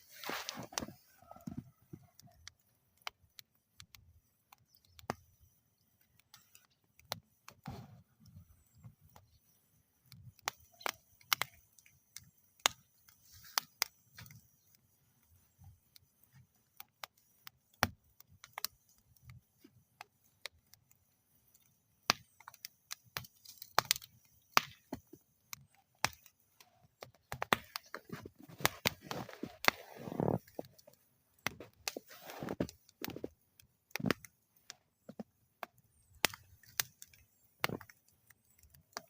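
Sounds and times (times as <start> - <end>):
fire hissing: 0.0 - 3.8, 4.6 - 39.0
campfire crackling and popping: 0.0 - 39.0.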